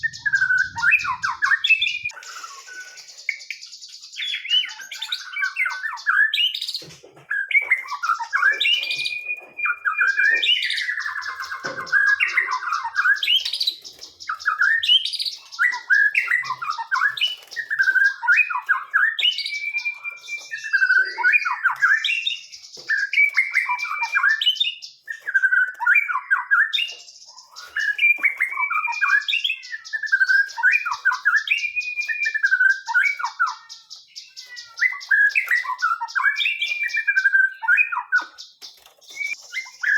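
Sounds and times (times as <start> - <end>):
bird chattering: 0.0 - 6.3, 7.6 - 24.5, 27.2 - 39.9
songbirds singing: 0.0 - 39.9.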